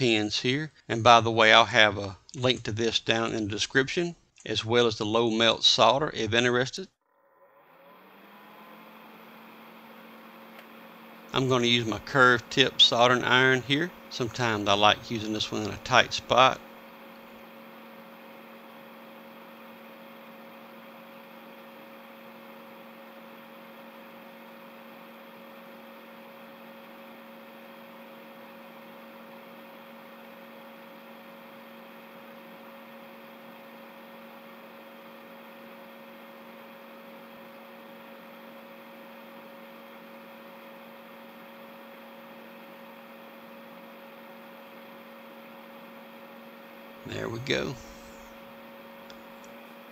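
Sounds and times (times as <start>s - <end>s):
electrical hum: 0.0s - 49.9s.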